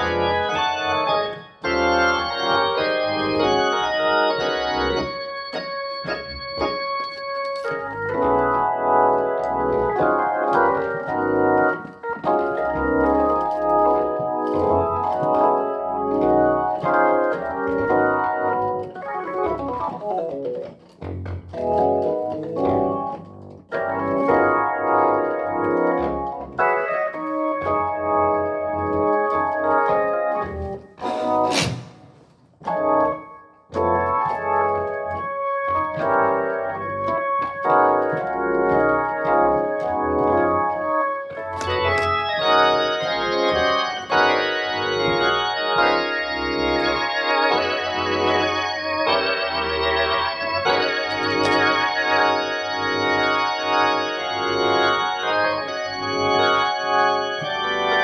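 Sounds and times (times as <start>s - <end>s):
organ playing chords: 0.0s - 21.0s, 21.6s - 31.8s, 32.7s - 58.0s
bass pedal line: 0.0s - 31.5s, 32.6s - 58.0s.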